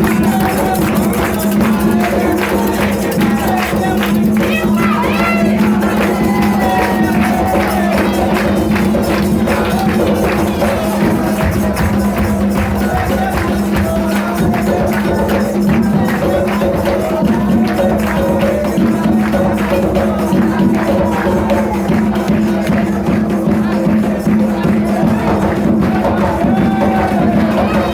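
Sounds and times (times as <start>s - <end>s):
jingling and shaking percussion: 0.0s - 27.9s
voices singing: 0.0s - 27.9s.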